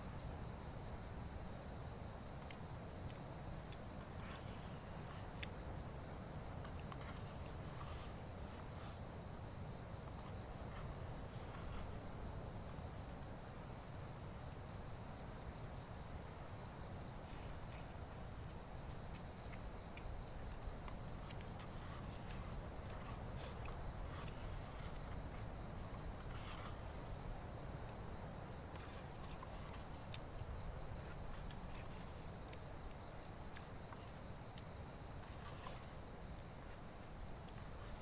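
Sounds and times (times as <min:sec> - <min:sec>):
insects chirping chorus: 0:00.0 - 0:38.0.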